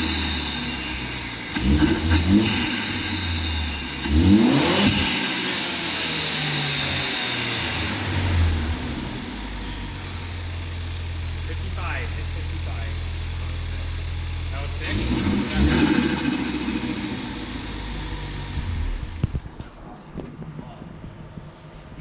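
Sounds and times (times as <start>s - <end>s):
car engine revving and idling: 0.0s - 20.2s.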